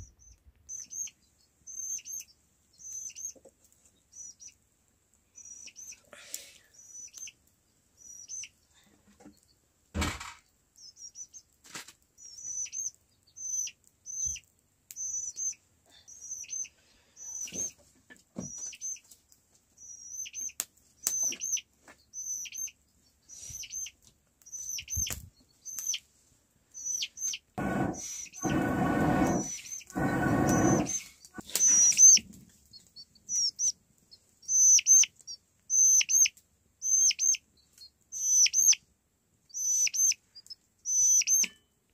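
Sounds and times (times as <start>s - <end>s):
chicks peeping: 0.0s - 4.6s, 5.3s - 6.0s, 6.8s - 7.4s, 8.0s - 9.6s, 10.8s - 11.5s, 12.2s - 17.8s, 18.4s - 19.2s, 19.8s - 26.0s, 26.7s - 38.8s, 39.5s - 41.5s.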